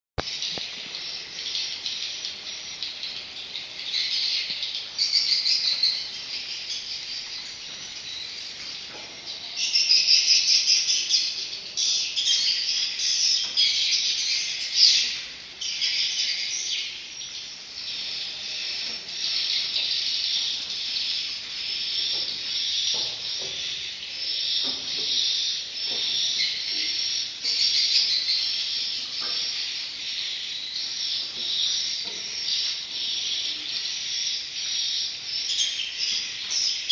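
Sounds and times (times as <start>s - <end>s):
high twittering bird chirps: 0.2s - 36.9s.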